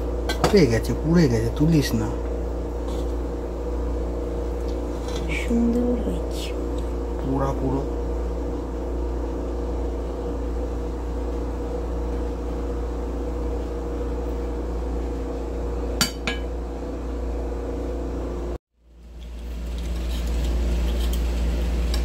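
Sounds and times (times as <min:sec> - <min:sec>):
appliance hum: 0:00.0 - 0:22.0.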